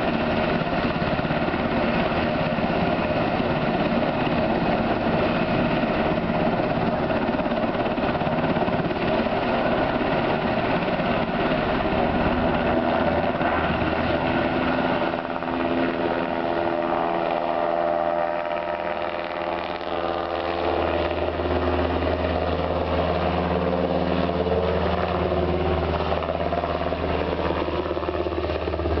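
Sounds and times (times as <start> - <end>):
helicopter turbines and rotor: 0.0 - 29.0
rising turbine whine: 0.0 - 29.0.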